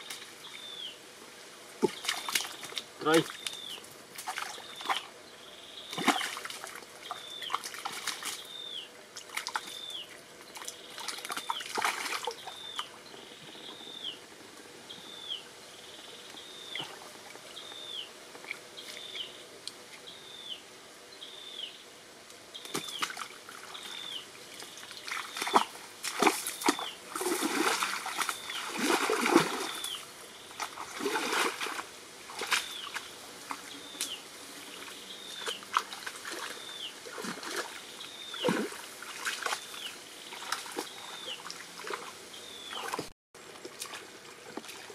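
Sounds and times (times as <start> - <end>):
water splashing and sloshing: 1.4 - 5.2, 5.9 - 13.9, 16.3 - 19.2, 22.6 - 44.9.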